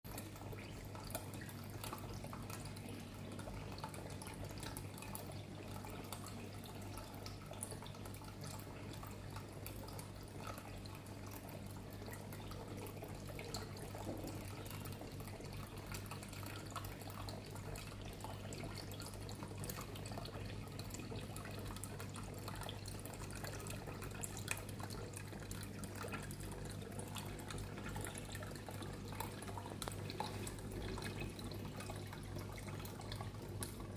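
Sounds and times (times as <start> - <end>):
tabletop fountain trickling: 0.1 - 33.9.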